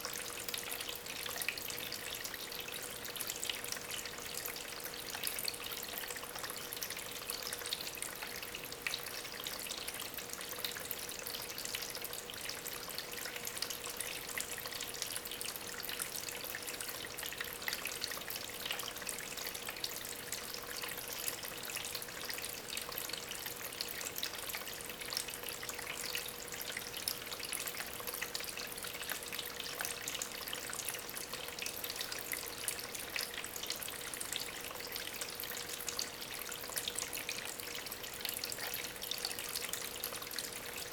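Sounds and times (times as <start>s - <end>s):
faint steady hum: 0.0s - 40.9s
water drips: 0.0s - 40.9s
water trickling over stones: 0.0s - 40.9s.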